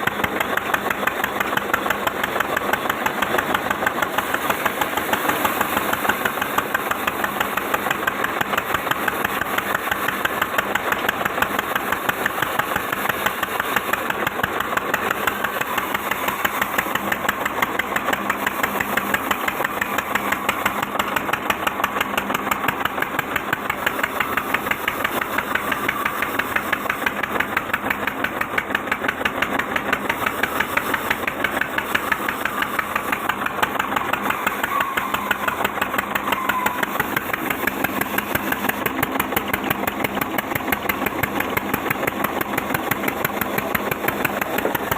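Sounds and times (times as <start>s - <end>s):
sawmill machine knocking: 0.0s - 44.9s.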